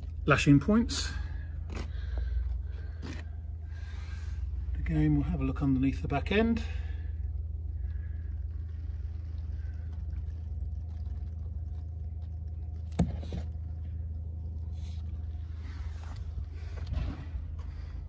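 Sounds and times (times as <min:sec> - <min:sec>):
faint hum: 0:00.0 - 0:18.0
low rumble: 0:00.0 - 0:18.0.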